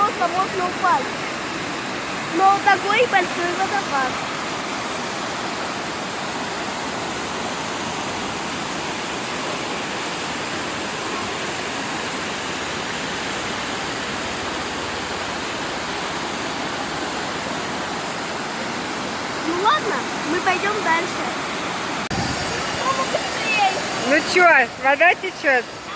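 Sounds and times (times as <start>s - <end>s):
large waterfall pouring: 0.0s - 25.9s.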